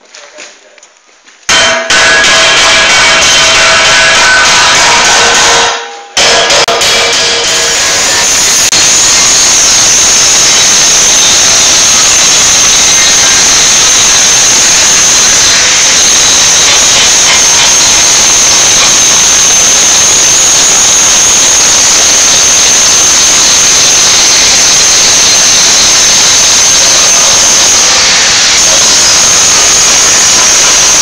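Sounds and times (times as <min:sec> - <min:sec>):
angle grinder grinding steel: 0:01.5 - 0:31.0.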